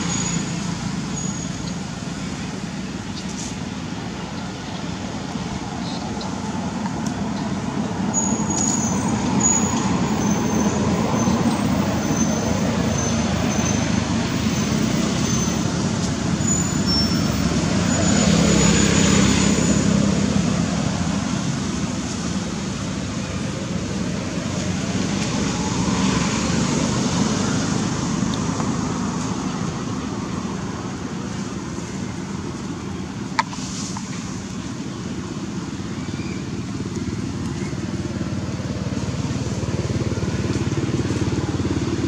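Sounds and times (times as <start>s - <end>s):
road traffic noise: 0.0s - 42.0s.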